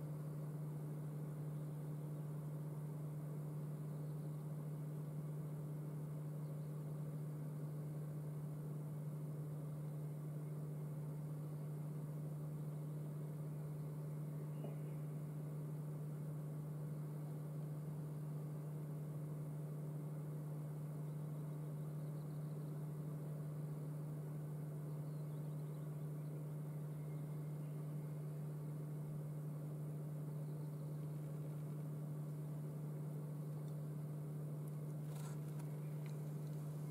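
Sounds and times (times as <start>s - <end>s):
low hum with overtones: 0.0s - 36.9s.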